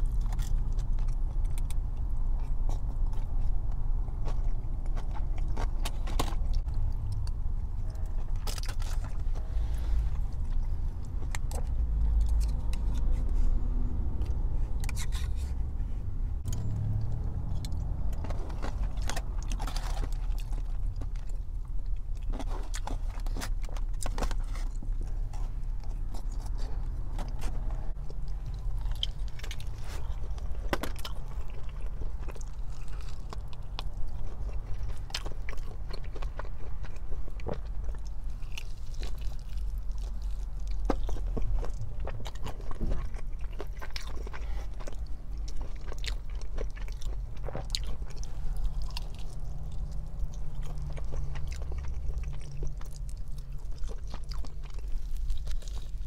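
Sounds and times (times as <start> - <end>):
chewing crispy fried chicken: 0.0 - 15.6, 16.4 - 56.0.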